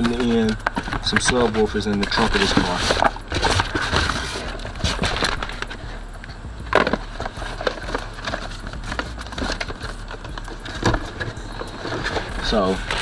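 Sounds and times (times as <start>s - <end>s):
cardboard boxes knocking and scraping: 0.0s - 5.9s, 6.6s - 13.0s.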